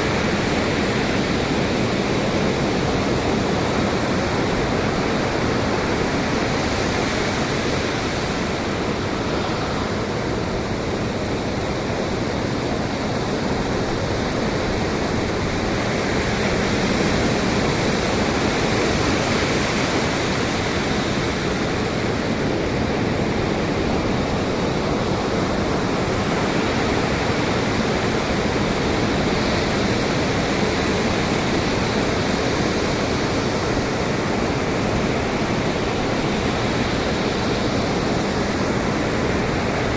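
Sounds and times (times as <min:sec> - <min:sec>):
ocean surf: 0:00.0 - 0:39.9
wind: 0:00.0 - 0:39.9.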